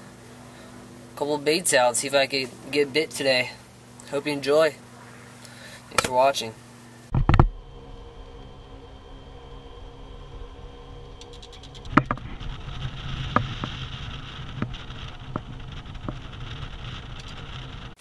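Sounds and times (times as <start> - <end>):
golf cart motor humming: 0.0 - 4.2, 4.8 - 18.0.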